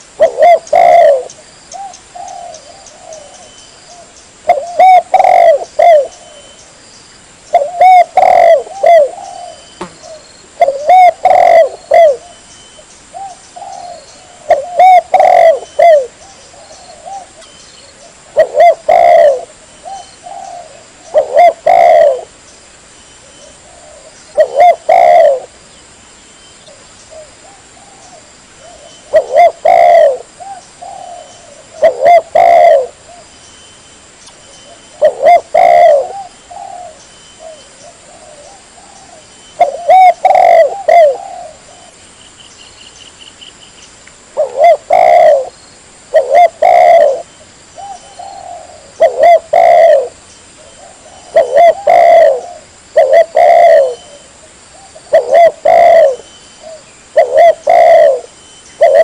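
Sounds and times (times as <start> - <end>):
dove cooing: 0.0 - 6.6, 7.5 - 22.4, 23.2 - 25.6, 26.7 - 33.3, 34.6 - 42.0, 44.4 - 59.0.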